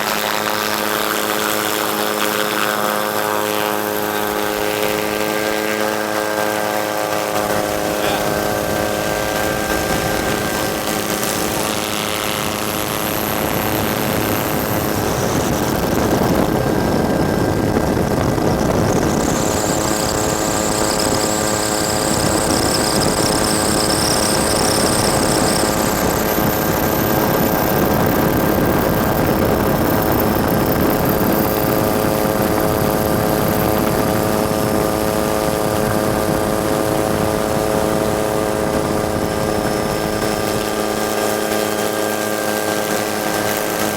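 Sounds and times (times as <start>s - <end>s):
faint high whine: 0.0s - 43.9s
helicopter rotor and turbine hum: 0.0s - 43.9s.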